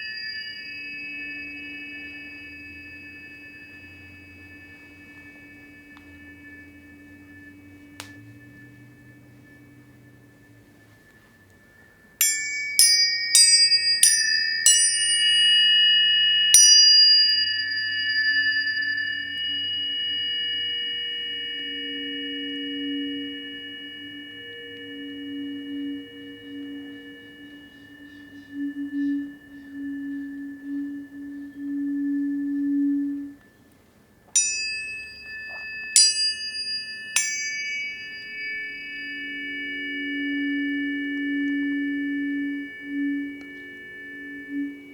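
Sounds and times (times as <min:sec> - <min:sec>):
low tone: 0:00.0 - 0:44.9
tuning forks ringing: 0:00.0 - 0:44.9.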